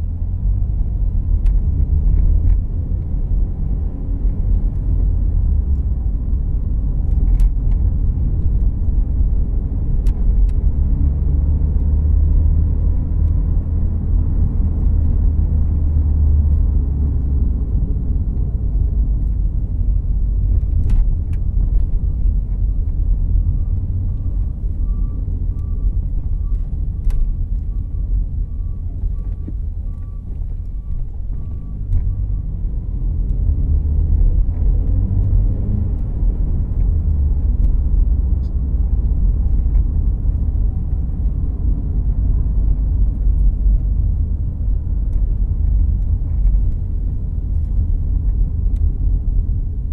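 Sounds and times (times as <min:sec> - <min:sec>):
engine and road rumble: 0:00.0 - 0:49.9.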